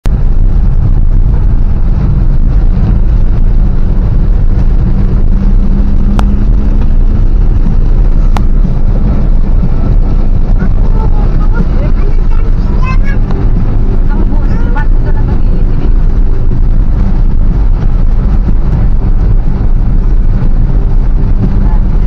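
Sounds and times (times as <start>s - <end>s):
car rumbling on wet road: 0.0s - 22.0s.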